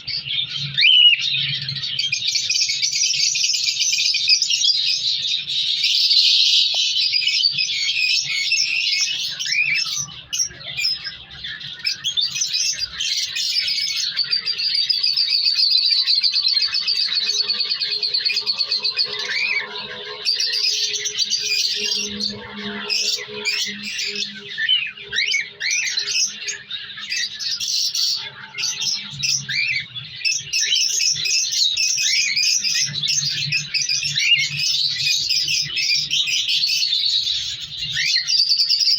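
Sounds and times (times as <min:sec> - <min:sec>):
cockatiels squawking and chirping: 0:00.0 - 0:38.9.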